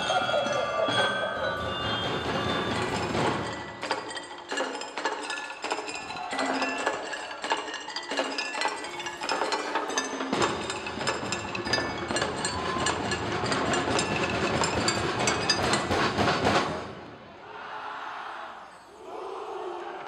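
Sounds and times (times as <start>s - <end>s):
wooden percussion clacking: 0.0s - 16.8s.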